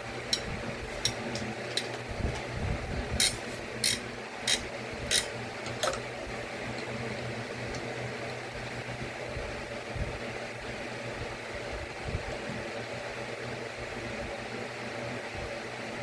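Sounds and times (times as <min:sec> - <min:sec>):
low steady hum: 0:00.0 - 0:14.4.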